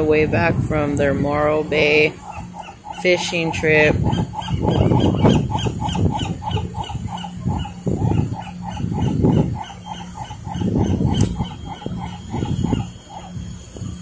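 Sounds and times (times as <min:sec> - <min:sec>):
fast even pulsing: 0:00.0 - 0:14.0.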